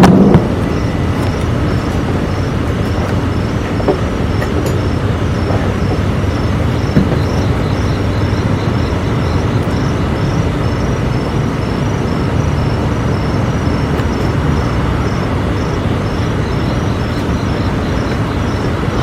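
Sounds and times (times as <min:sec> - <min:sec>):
low rumbling drone: 0:00.0 - 0:19.0.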